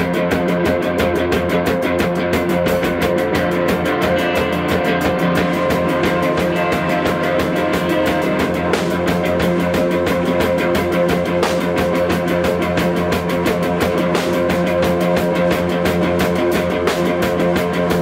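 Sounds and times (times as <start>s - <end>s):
driving drumming with cymbals: 0.0s - 18.0s
droning electric guitar: 0.0s - 18.0s.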